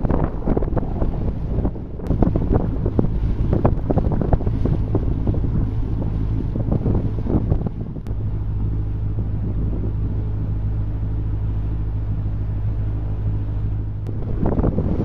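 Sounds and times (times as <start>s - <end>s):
boat engine droning: 0.0s - 15.0s
wind buffeting microphone: 0.0s - 15.0s.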